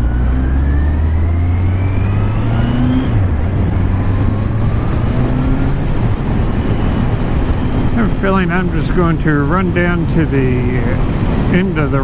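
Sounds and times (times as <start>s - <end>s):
motorcycle engine accelerating: 0.0s - 9.8s.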